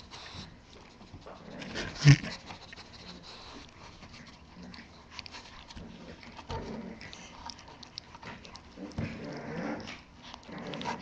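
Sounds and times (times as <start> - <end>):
puppy chewing kibble: 0.0 - 11.0.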